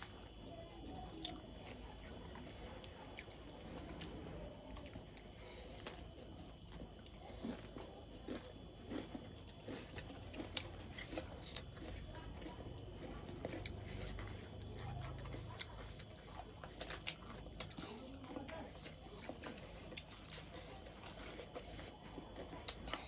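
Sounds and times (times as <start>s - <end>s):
chewing with wet mouth smacks: 0.0s - 23.0s
food crunching: 0.0s - 23.0s.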